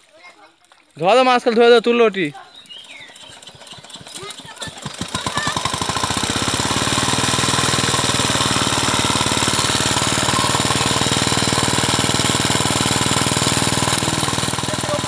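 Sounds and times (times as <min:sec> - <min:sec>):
small engine chugging: 0:02.3 - 0:15.0.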